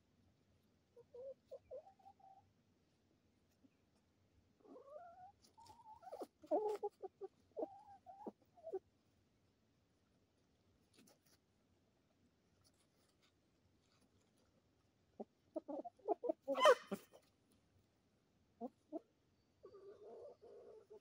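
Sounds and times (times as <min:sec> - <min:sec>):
chickens clucking: 0:00.6 - 0:09.2, 0:12.7 - 0:21.0.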